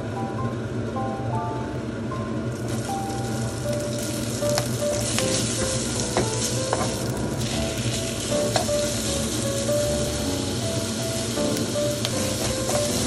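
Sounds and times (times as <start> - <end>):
onion sizzling in hot oil: 2.5 - 13.0.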